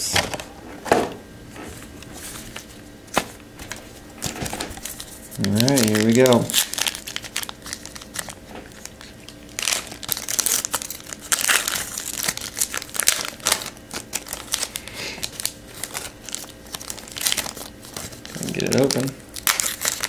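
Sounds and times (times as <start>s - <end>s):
wrapper crinkling: 2.2s - 20.0s.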